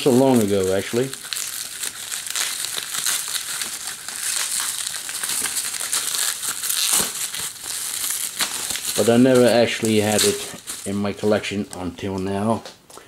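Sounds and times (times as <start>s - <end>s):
bubble wrap crinkling: 0.0s - 12.4s.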